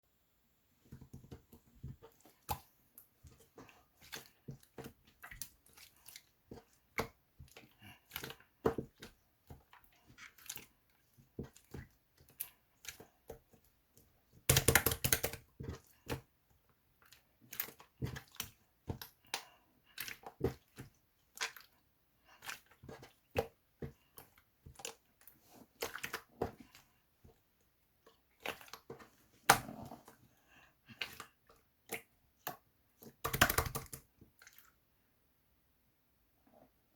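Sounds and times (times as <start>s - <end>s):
slime squishing with wet clicks: 2.0s - 29.7s, 30.8s - 34.9s.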